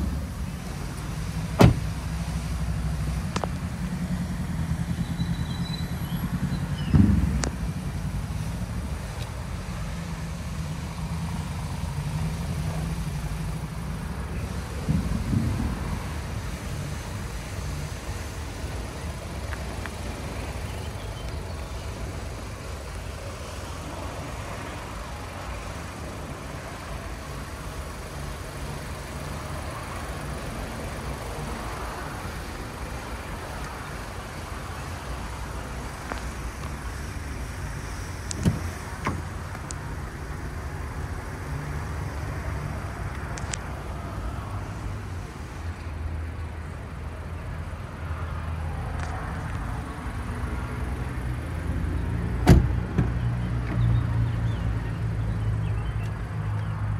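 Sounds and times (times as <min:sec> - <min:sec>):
motor vehicle rumble: 0:00.0 - 0:56.9.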